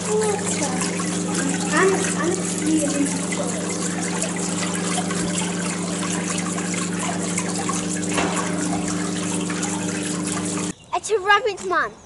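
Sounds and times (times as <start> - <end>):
water trickling: 0.0 - 10.8.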